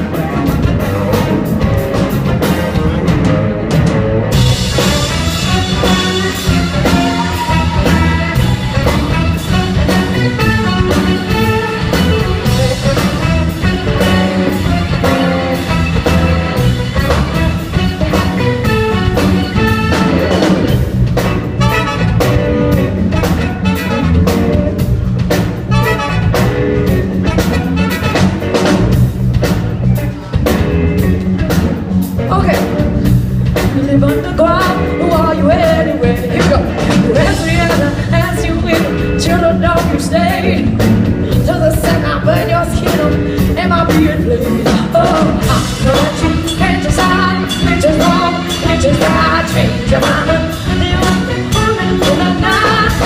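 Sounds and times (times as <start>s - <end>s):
drum kit with rimshots: 0.0s - 53.0s
live band playing instrumental: 0.0s - 53.0s.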